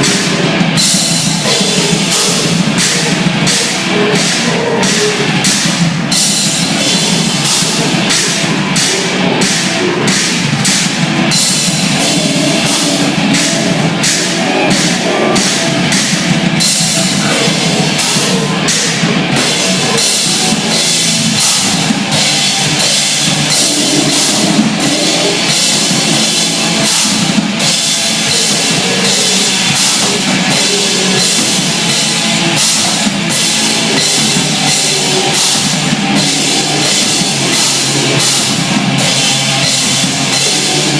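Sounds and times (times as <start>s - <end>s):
cymbal hits: 0.0s - 40.9s
loud fast rock music: 0.0s - 40.9s.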